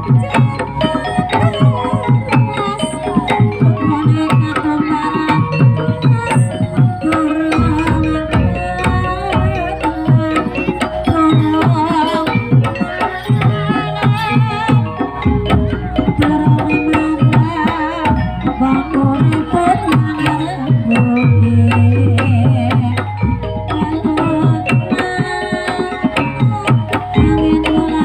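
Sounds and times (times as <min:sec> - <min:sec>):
hand drums beating quick rhythm: 0:00.0 - 0:28.0
ringing metallophone notes: 0:00.0 - 0:28.0
wavering high melody: 0:00.0 - 0:28.0.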